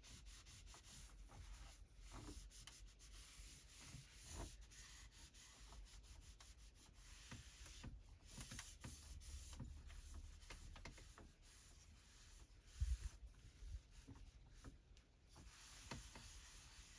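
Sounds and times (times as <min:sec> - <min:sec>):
cloth rubbing surface: 0:00.0 - 0:16.9.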